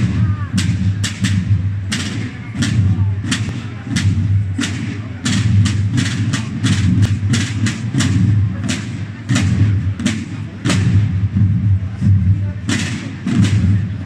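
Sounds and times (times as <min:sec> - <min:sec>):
deep low drum rumble: 0:00.0 - 0:14.0
sharp drum strikes: 0:00.0 - 0:14.0.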